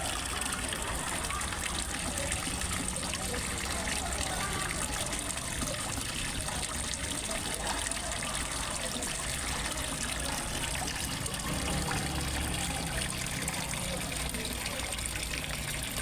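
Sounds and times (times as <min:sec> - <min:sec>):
water trickling into a pond: 0:00.0 - 0:16.0.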